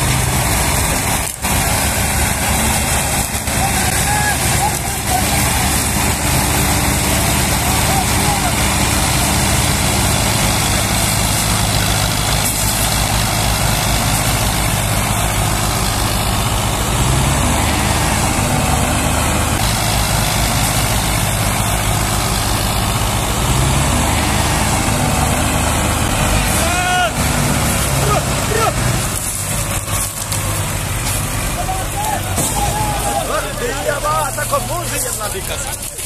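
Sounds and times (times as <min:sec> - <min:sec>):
tractor diesel engines under load: 0:00.0 - 0:36.0.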